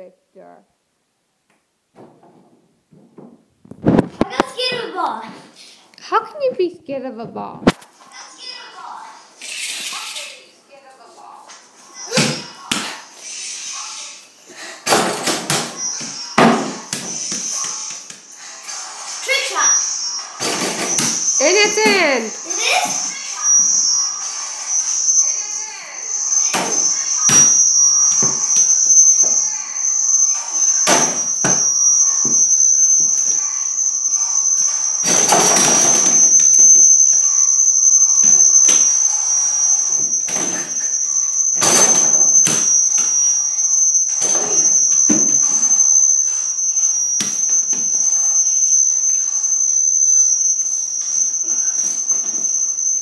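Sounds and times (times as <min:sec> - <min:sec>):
steady high-pitched whine: 0:03.6 - 0:53.0.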